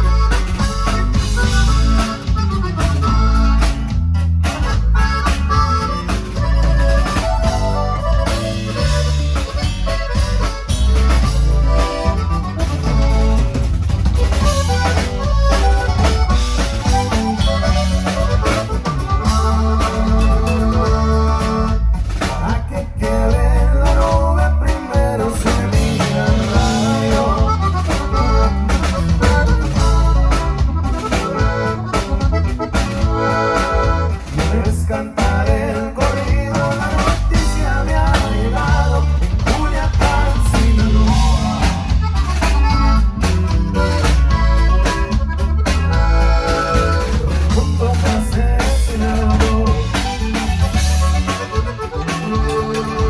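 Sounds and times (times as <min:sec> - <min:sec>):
band music: 0:00.0 - 0:53.0
drum kit beat: 0:00.0 - 0:53.0.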